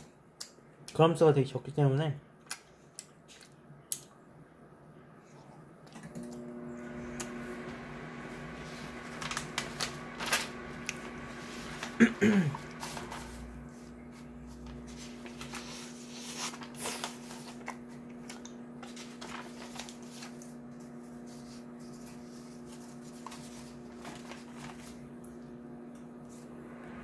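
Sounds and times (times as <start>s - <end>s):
microwave oven humming: 3.6s - 27.0s.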